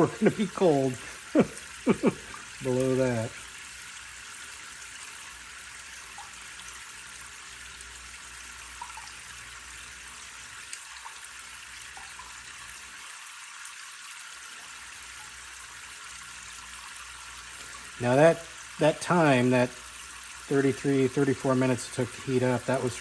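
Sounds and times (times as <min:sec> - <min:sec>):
shower spraying into a bucket: 0:00.0 - 0:23.0.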